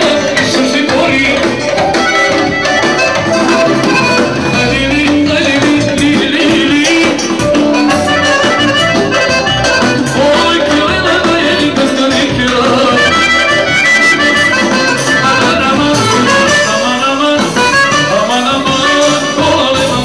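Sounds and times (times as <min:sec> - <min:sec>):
band playing dance music: 0:00.0 - 0:20.0.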